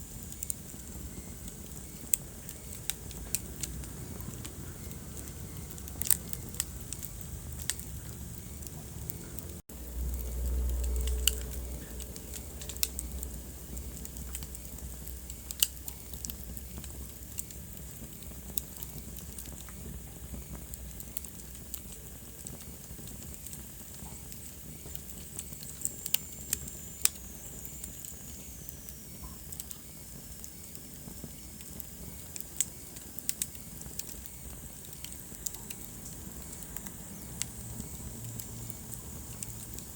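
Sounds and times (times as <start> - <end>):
low rumble of fire: 0.0 - 39.9
wood fire crackling: 0.0 - 39.9.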